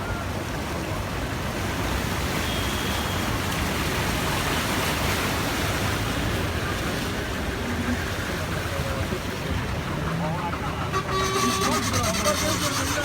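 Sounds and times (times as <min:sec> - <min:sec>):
floodwater rushing: 0:01.2 - 0:13.0.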